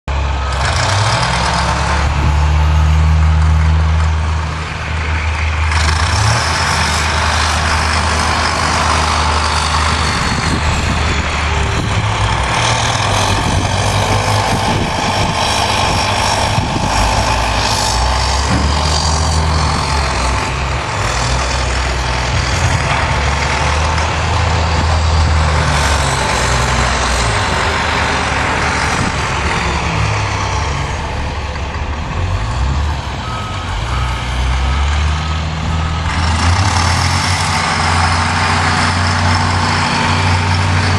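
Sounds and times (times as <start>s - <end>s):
heavy vehicle engines rumbling: 0.0s - 40.9s
road noise: 0.0s - 40.9s.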